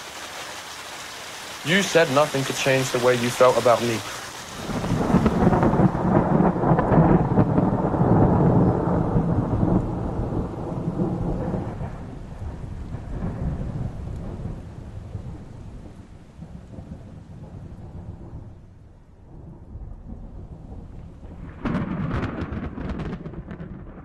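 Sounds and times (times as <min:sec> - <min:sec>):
heavy rain: 0:00.0 - 0:24.0
thunder rumble: 0:01.5 - 0:24.0.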